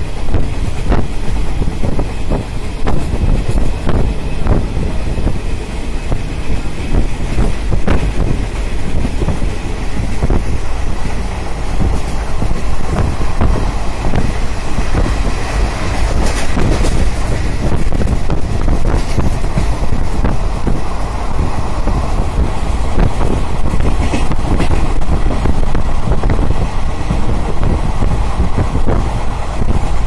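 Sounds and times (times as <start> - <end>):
train wheels rumbling on rails: 0.0 - 30.0
wind buffeting microphone: 0.0 - 30.0.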